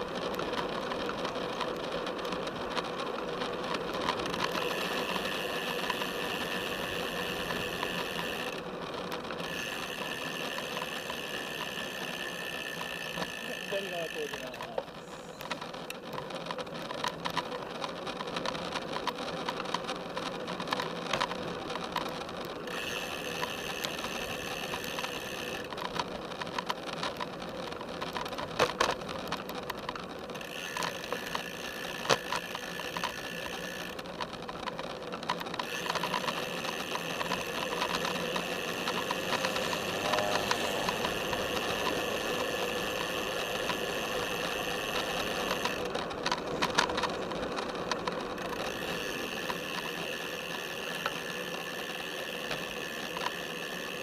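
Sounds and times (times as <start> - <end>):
bike frame rattles: 0.0 - 54.0
freewheel ticking: 0.0 - 54.0
tyre and road noise: 0.0 - 54.0.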